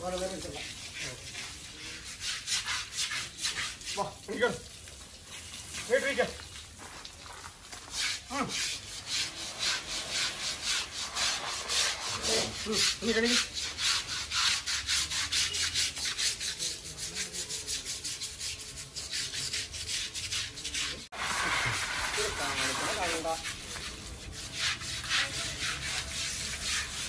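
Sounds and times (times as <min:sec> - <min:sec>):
scrubbing strokes on hide: 0:00.0 - 0:27.0.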